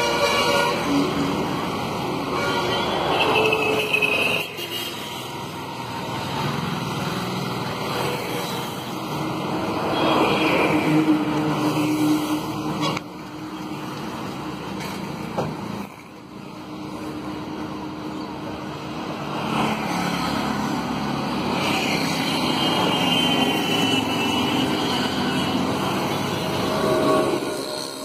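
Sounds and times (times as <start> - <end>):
cars passing on busy street: 0.0 - 28.0.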